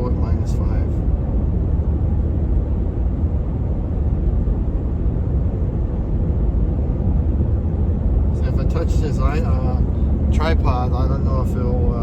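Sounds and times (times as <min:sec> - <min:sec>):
truck driving heard from cab: 0:00.0 - 0:12.0.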